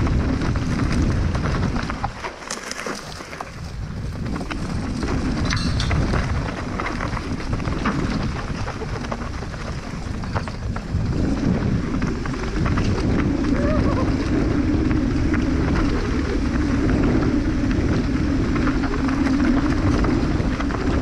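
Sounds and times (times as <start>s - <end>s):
bike rattling over rough ground: 0.0s - 21.0s
wind buffeting microphone: 0.0s - 21.0s.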